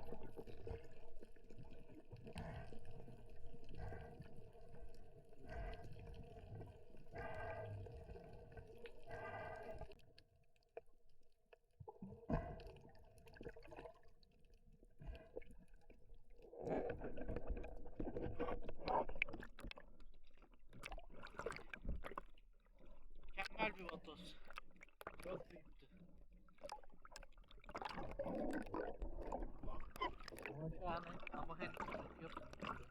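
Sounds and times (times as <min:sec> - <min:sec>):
underwater gurgling and crackling: 0:00.0 - 0:32.9.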